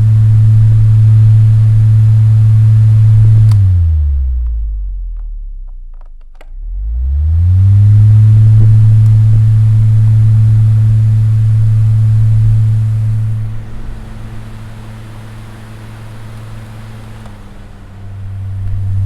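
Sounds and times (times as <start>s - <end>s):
electric fan motor humming: 0.0s - 4.8s, 6.9s - 19.0s.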